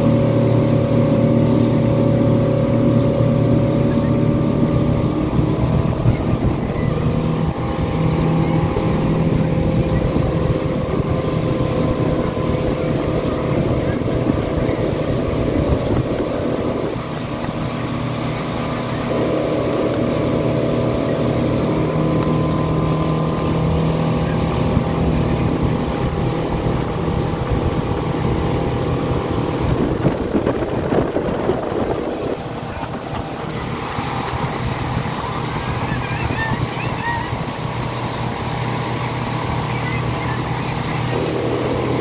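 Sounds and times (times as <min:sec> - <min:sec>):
churning wake rushing: 0:00.0 - 0:42.0
motorboat engine running: 0:00.0 - 0:42.0
wind on microphone: 0:00.0 - 0:42.0.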